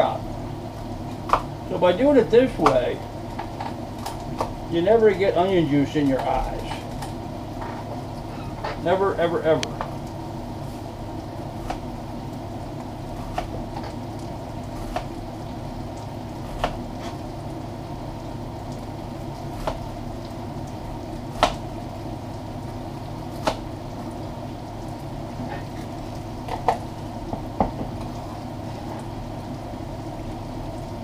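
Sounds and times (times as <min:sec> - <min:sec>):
pot simmering: 0:00.0 - 0:31.0.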